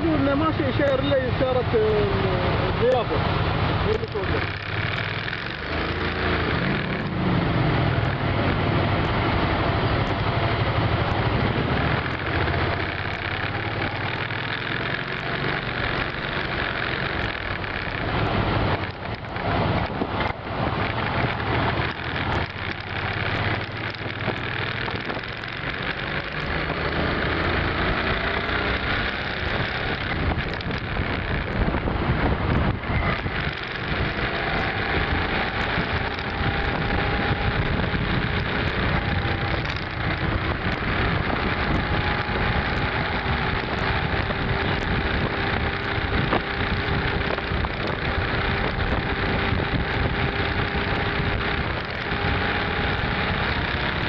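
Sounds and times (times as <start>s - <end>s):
wind rush over microphone: 0.0s - 14.3s, 15.6s - 54.0s
motorcycle engine running: 0.0s - 54.0s.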